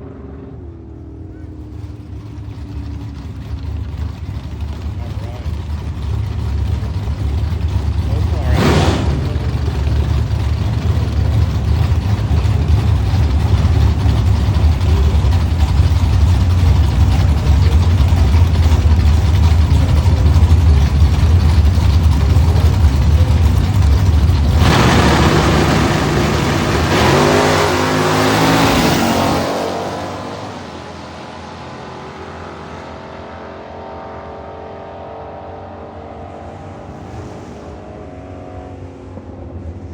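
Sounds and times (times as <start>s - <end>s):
deep engine rumble: 0.0s - 33.0s
drag car engine accelerating: 0.0s - 39.9s.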